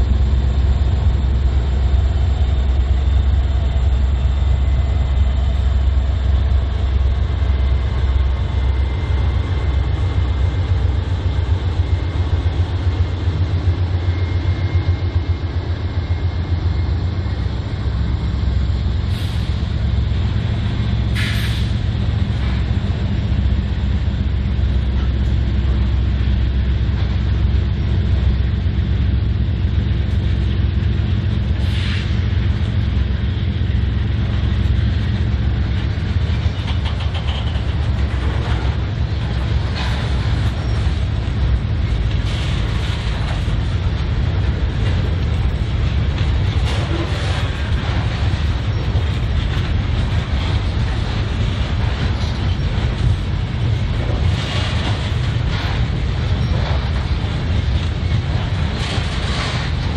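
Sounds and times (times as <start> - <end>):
diesel locomotive engines running: 0.0 - 59.9
rail cars rolling by: 0.0 - 59.9.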